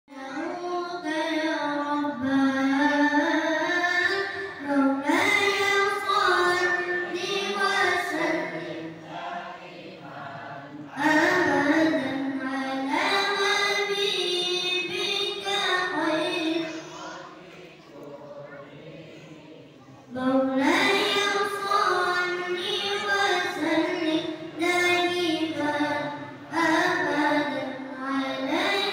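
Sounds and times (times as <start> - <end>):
boy singing unaccompanied chant: 0.1 - 28.9.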